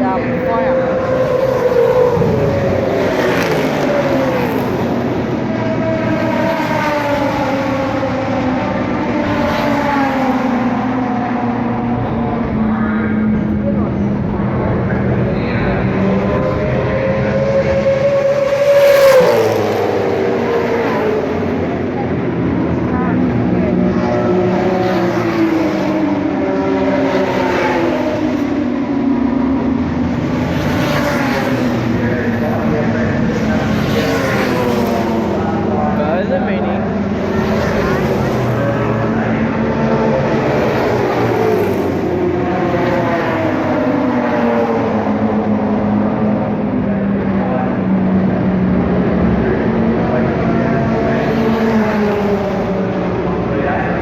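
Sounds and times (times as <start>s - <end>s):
racing car engines running loud: 0.0s - 54.0s.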